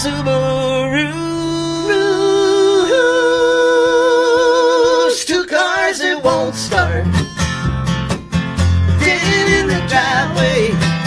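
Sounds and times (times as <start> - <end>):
acoustic guitar strumming: 0.0 - 11.0
upright bass: 0.0 - 11.0.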